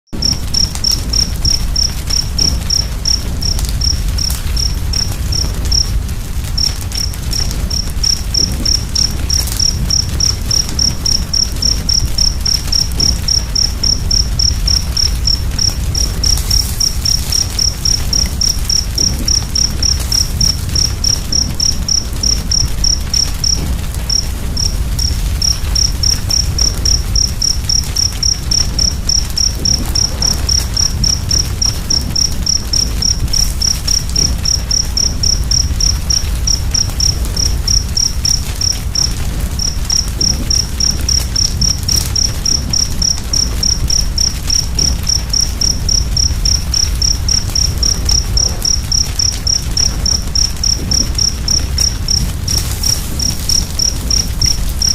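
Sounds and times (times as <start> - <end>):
wood fire crackling: 0.1 - 54.9
cricket chirping: 0.2 - 54.9.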